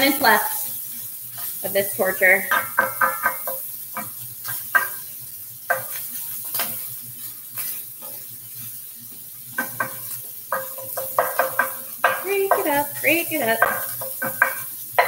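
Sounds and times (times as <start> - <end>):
frying sizzle: 0.0 - 15.0
wooden spoon scraping a skillet: 0.0 - 15.0.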